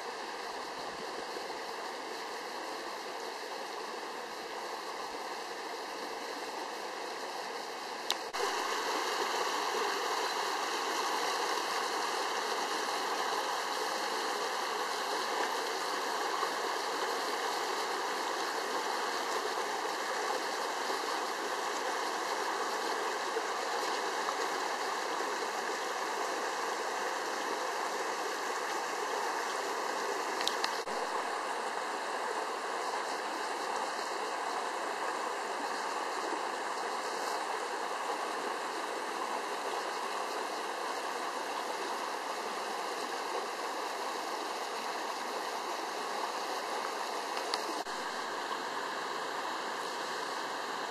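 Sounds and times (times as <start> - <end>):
stream babbling over rocks: 0.0 - 50.9.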